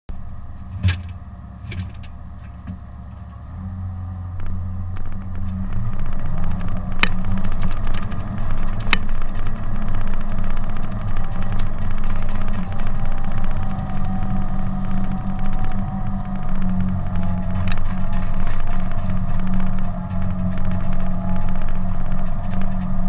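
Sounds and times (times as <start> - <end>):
bulldozer diesel engine running: 0.1 - 23.0.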